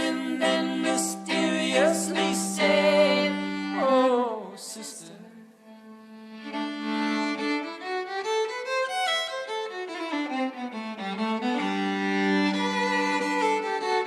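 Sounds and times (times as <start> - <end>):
slow violin melody: 0.0 - 14.0.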